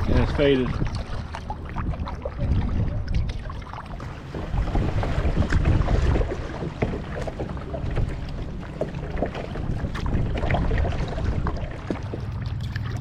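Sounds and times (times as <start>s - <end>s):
wind buffeting microphone: 0.0s - 12.2s
water splashes and drips: 0.0s - 13.0s.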